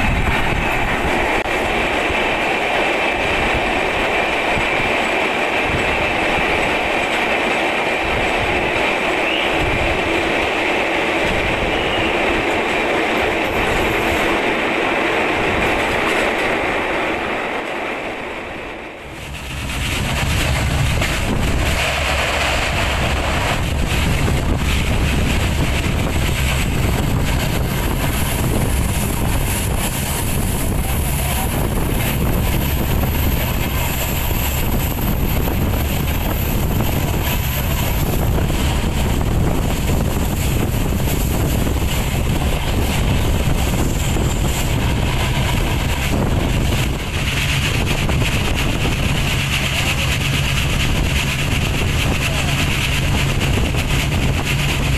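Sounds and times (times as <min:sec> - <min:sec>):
train noise in tunnel: 0:00.0 - 0:54.9
train running rumble: 0:00.0 - 0:54.9
wind buffeting microphone: 0:00.0 - 0:54.9.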